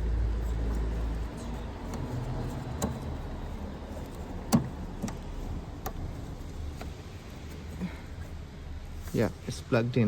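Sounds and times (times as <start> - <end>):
handling noise: 0.0 - 8.4.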